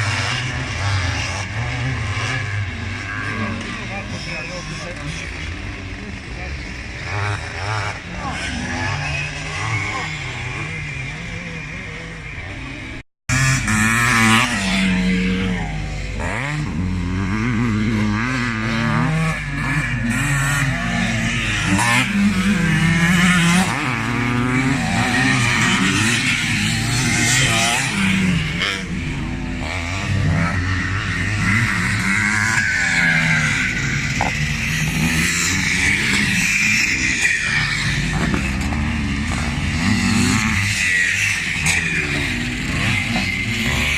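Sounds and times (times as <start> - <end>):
motocross motorcycles revving: 0.0 - 43.9.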